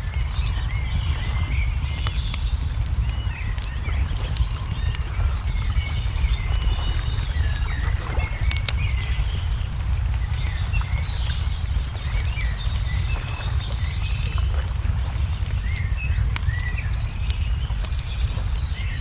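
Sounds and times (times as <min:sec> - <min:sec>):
songbirds chirping and trilling: 0:00.0 - 0:19.0
steady low rumble: 0:00.0 - 0:19.0
wood fire crackling: 0:00.0 - 0:19.0.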